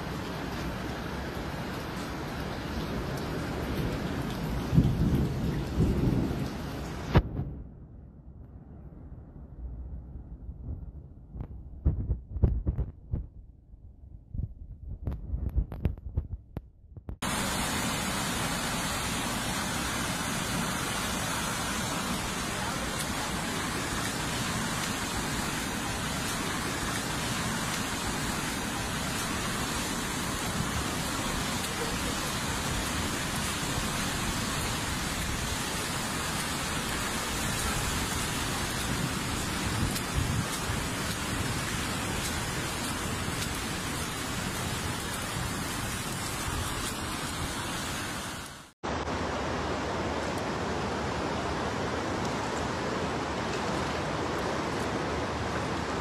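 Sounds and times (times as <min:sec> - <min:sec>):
floodwater rushing: 0:00.0 - 0:07.4, 0:17.2 - 0:56.0
heavy rain: 0:00.0 - 0:09.1, 0:17.2 - 0:56.0.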